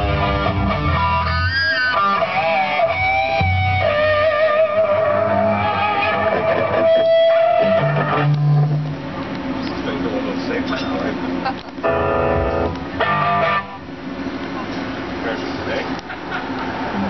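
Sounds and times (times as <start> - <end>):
electric guitar bending notes: 0.0 - 10.1, 11.1 - 15.2
bass guitar line: 0.0 - 10.2, 11.0 - 15.2.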